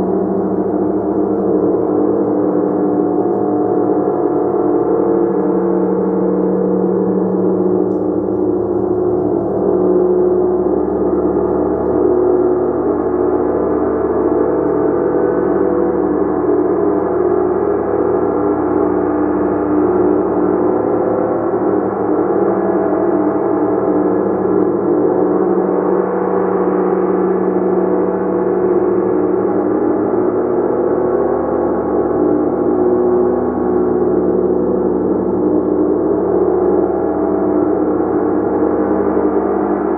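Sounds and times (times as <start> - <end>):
gong ringing continuously: 0.0 - 39.9.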